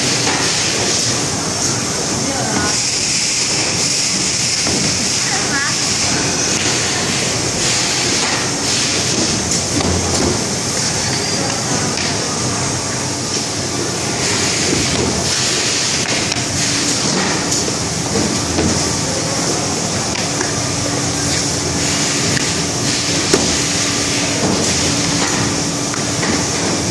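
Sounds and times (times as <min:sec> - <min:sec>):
production line machinery running: 0:00.0 - 0:26.9.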